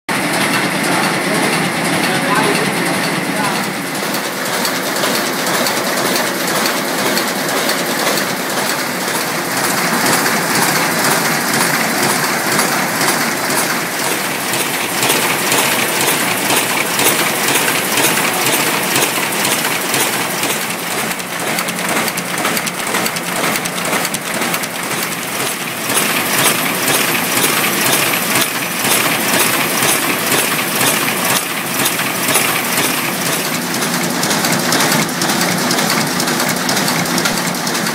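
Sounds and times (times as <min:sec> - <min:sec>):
machine clattering: 0:00.1 - 0:37.9.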